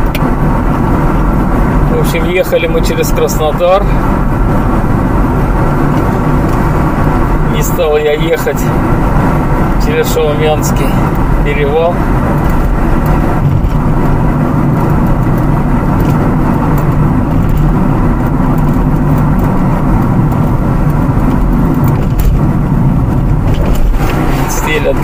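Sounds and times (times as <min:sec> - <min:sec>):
car engine humming: 0:00.0 - 0:25.0
tyres on asphalt: 0:00.0 - 0:25.0.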